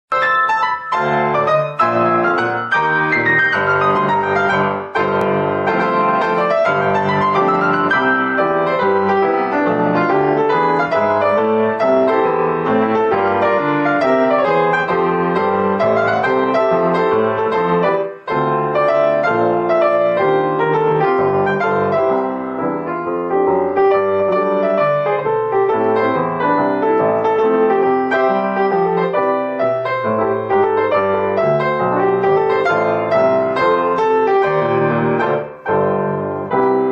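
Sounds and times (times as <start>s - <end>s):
piano music: 0.1s - 36.9s.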